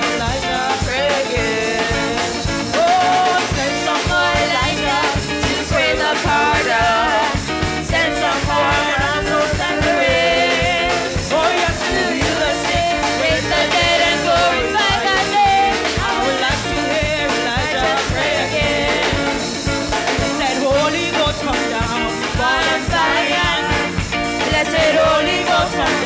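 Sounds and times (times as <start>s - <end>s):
drum kit steady beat: 0.0s - 26.0s
women singing together: 0.0s - 26.0s.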